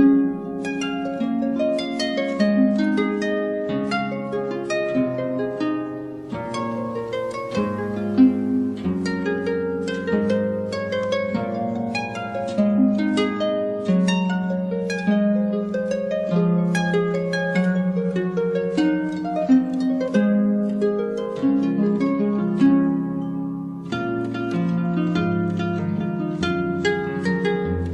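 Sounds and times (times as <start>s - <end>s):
gentle plucked string music: 0.0s - 27.9s.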